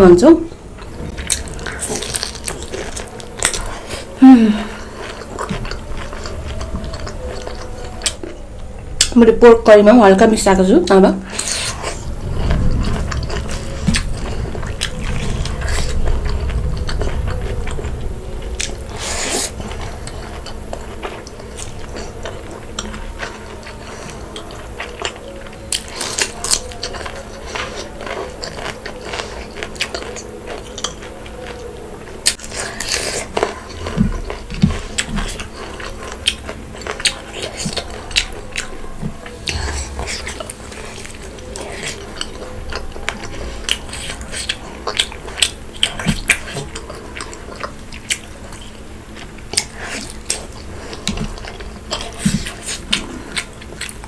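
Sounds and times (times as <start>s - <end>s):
chewing food: 0.5s - 9.5s, 11.2s - 54.0s
food crunching: 0.6s - 9.2s, 11.2s - 54.0s.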